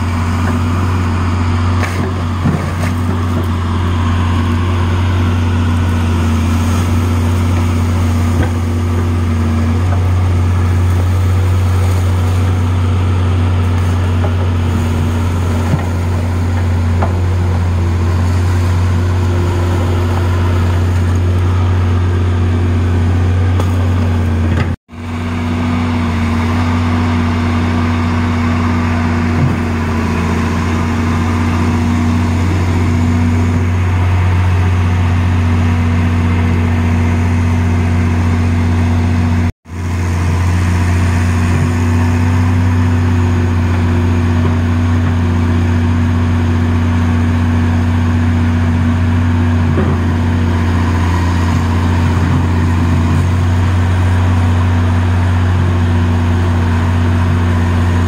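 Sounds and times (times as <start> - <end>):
excavator engine humming: 0.0 - 58.0.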